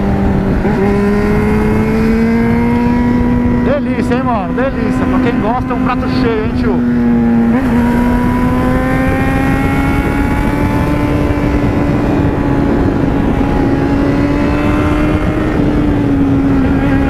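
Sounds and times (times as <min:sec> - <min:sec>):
wind rushing: 0:00.0 - 0:17.0.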